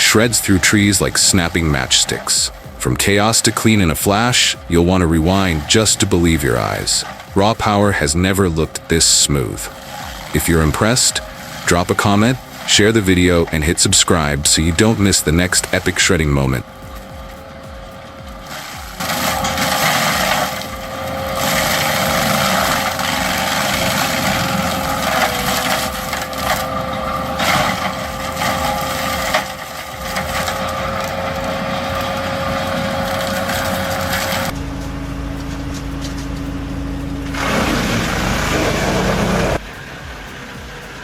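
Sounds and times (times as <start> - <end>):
branches cracking and crunching: 0.0 - 39.6
low machine hum: 0.0 - 41.0
wood chipper whining: 0.0 - 41.0.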